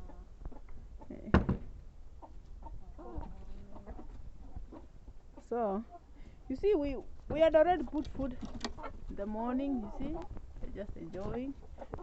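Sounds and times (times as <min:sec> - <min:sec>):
chickens clucking softly: 0:00.0 - 0:01.3, 0:02.1 - 0:07.1, 0:07.7 - 0:10.5, 0:11.2 - 0:12.0.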